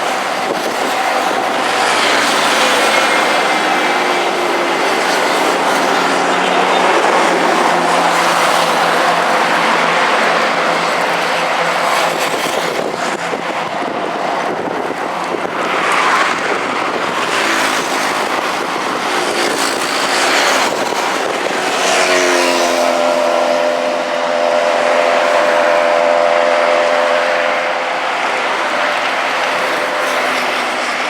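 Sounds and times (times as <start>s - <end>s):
engine humming: 0.0s - 31.0s
heavy street traffic: 0.0s - 31.0s
vehicles passing: 0.0s - 31.0s.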